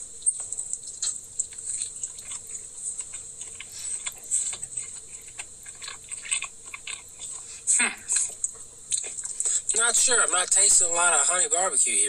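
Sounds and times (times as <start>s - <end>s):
man chewing food: 0.0s - 11.5s.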